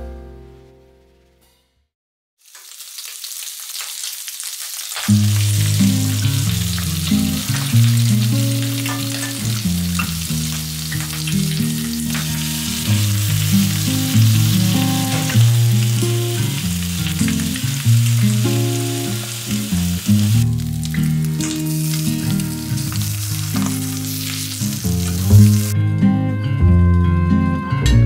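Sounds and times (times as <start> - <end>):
bacon and eggs sizzling in a pan: 2.4 - 25.8.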